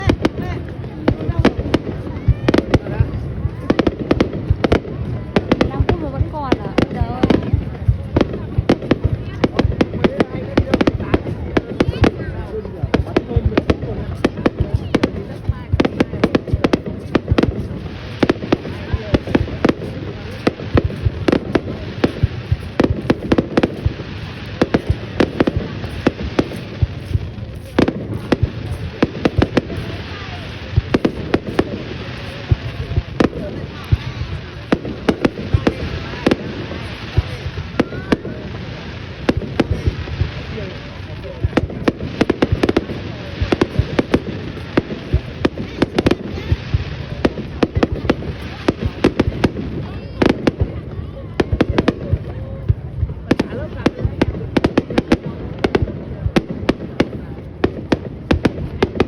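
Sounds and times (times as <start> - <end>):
distant fireworks bursts: 0.0 - 59.0
fireworks bangs: 0.0 - 59.0.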